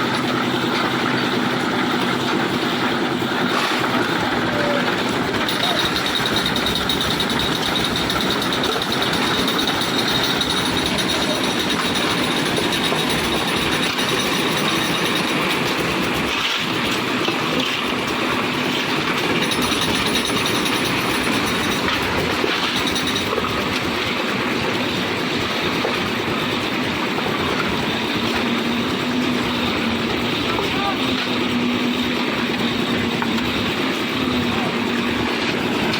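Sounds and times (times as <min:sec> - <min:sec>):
concrete mixer running: 0:00.0 - 0:35.9.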